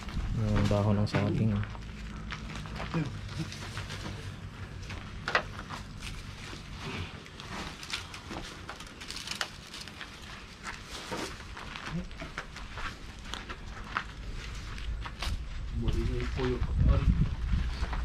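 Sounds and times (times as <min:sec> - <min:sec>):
leaves rustling and crackling: 0:00.0 - 0:18.0.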